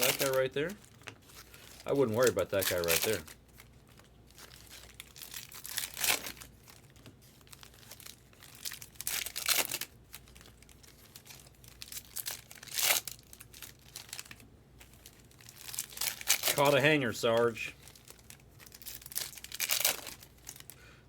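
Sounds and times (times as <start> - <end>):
packaging crinkled and torn open: 0.0 - 20.9
light rustling of packaging: 0.0 - 21.0.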